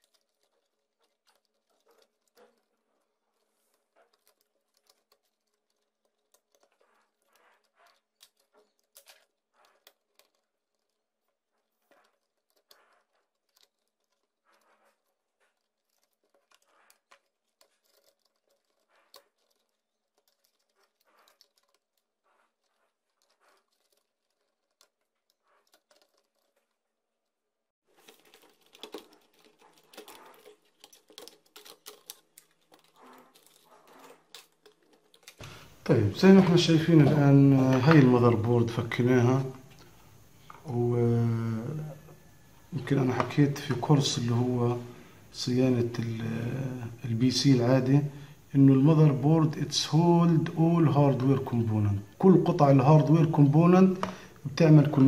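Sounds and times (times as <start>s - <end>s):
clicks and rustles of handling parts: 0.0s - 26.9s, 27.9s - 40.8s, 41.5s - 55.0s.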